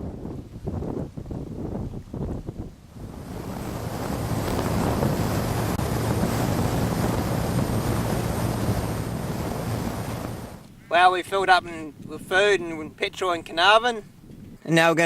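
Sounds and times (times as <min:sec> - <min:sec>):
wind rushing over microphone: 0:00.0 - 0:14.7.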